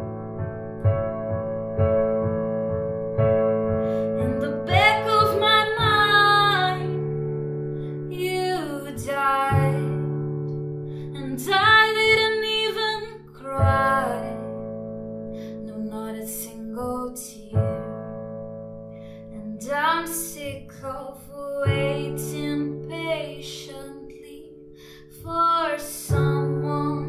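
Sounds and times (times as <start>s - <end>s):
digital piano chords: 0.0s - 27.0s.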